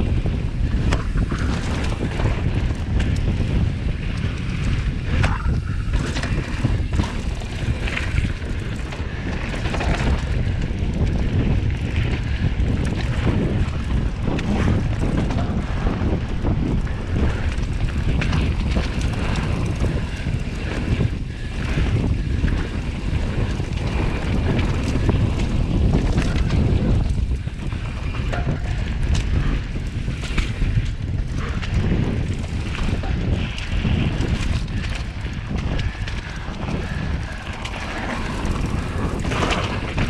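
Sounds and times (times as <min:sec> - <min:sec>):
bike tyres on dirt: 0:00.0 - 0:40.0
wind rushing over microphone: 0:00.0 - 0:40.0.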